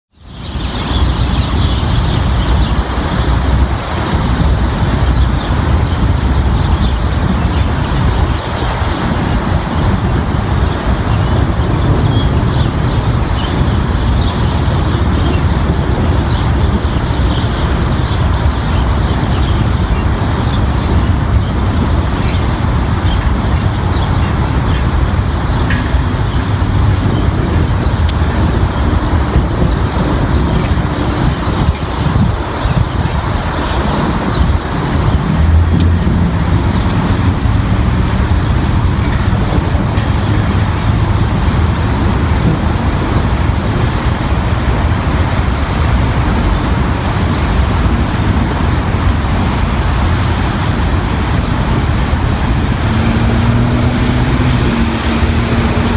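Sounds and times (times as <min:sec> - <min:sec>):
wind and rain rushing: 0:00.1 - 0:55.9
wind buffeting microphone: 0:00.1 - 0:55.9.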